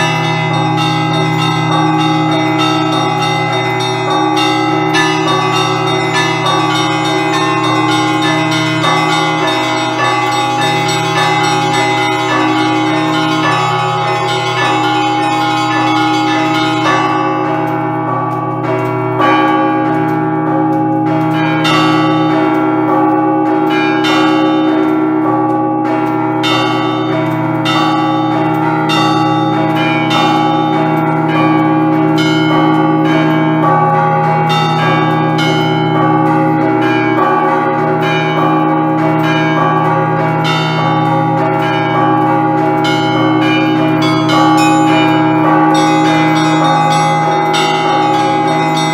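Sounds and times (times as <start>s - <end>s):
large low bells ringing: 0.0s - 48.9s
small church bells striking: 0.0s - 48.9s.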